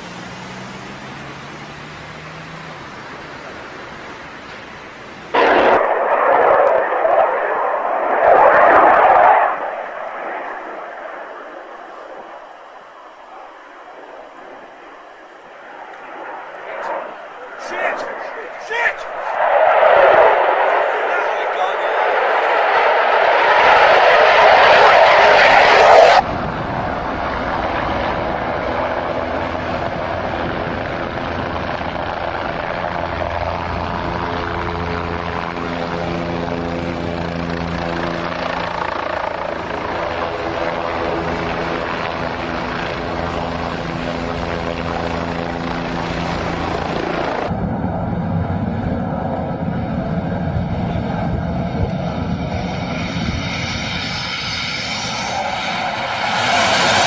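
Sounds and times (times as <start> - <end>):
aircraft engine droning: 0.0 - 57.0
rough aircraft engine: 0.0 - 57.0.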